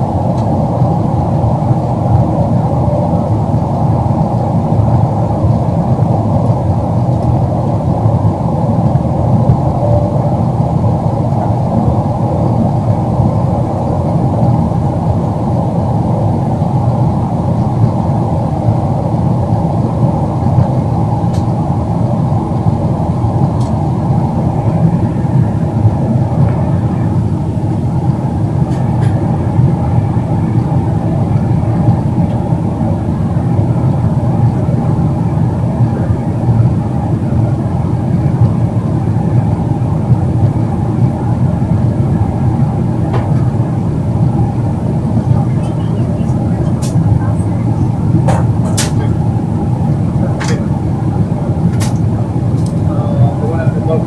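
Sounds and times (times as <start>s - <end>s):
jet engines and airflow rushing: 0.0s - 54.0s.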